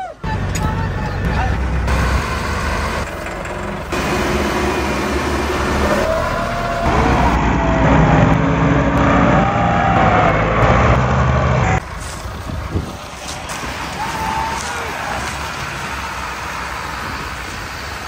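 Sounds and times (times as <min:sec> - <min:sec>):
diesel tractor engine under load: 0:00.0 - 0:18.0.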